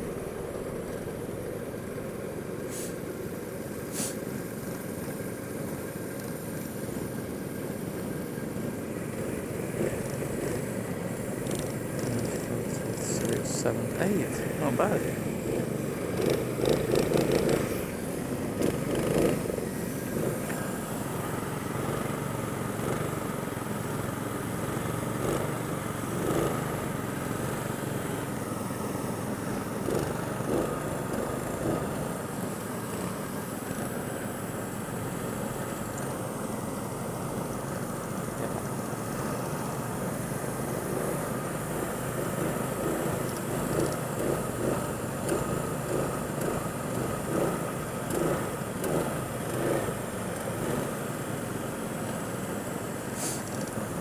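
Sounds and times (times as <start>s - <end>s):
go-kart engines running: 0.0s - 54.0s.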